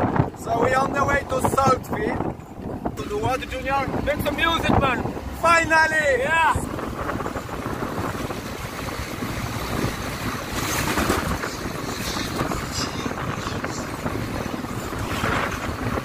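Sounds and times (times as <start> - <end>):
car engine and road noise: 0.0 - 16.0
wind rushing over microphone: 0.0 - 16.0.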